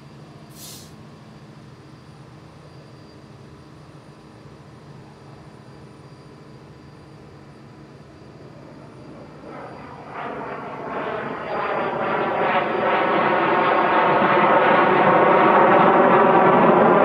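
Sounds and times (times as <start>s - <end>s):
aircraft auxiliary power unit: 0.0s - 17.0s.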